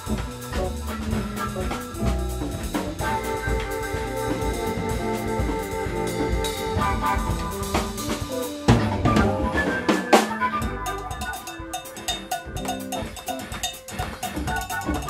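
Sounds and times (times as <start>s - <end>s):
drum kit playing: 0.0s - 15.0s
electronic keyboard notes: 0.0s - 15.0s
jazz band playing: 0.0s - 15.0s.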